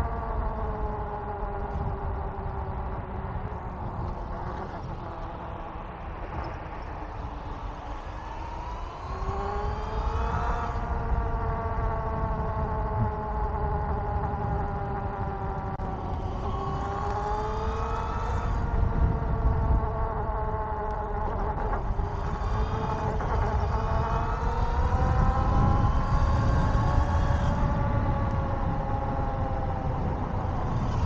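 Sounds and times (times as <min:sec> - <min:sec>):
electric bike motor whining: 0:00.0 - 0:31.0
wind and tyres rumbling: 0:00.0 - 0:31.0.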